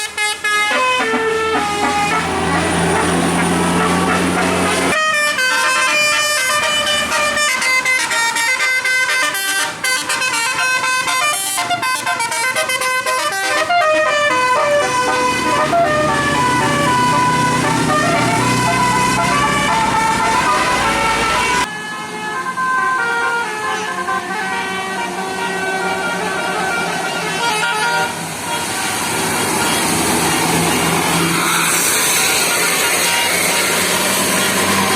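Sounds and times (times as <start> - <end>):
bus engine running: 0.0 - 34.9
multi-tone air horn melody: 0.0 - 34.9.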